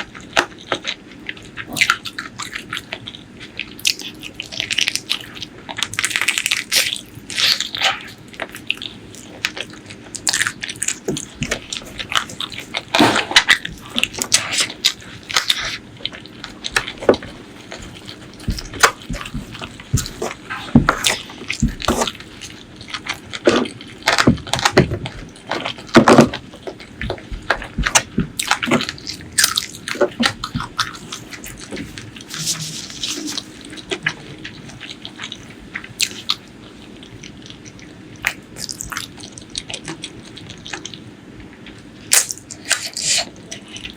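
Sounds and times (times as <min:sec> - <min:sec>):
wet chewing and lip smacking: 0:00.0 - 0:43.9.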